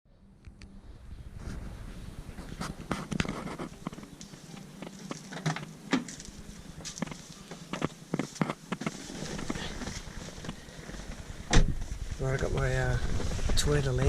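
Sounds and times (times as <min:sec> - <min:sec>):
low steady hum: 0:00.1 - 0:14.0.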